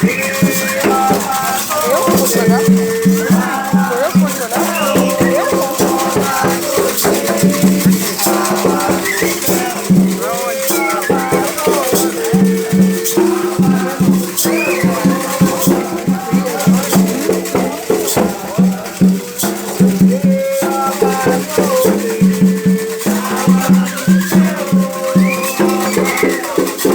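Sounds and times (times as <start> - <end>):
hand drums: 0.0 - 26.9
shaken rattle: 0.0 - 26.9
voices singing a chant: 0.0 - 26.9.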